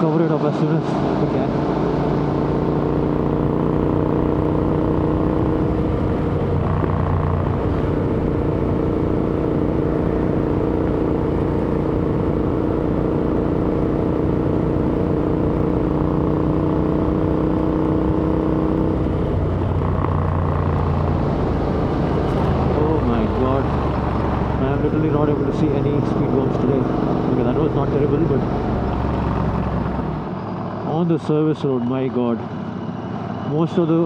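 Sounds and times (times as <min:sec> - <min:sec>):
motorcycle engine running: 0:01.0 - 0:30.3.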